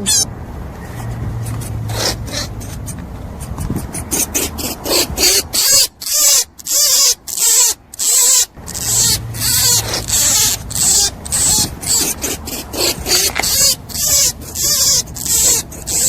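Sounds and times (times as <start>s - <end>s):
rabbit calling: 0.0s - 0.3s, 0.9s - 16.0s.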